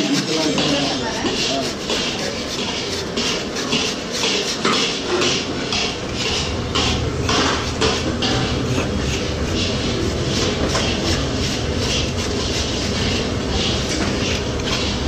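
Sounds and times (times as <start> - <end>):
knife scraping sugar paste: 0.0 - 15.0.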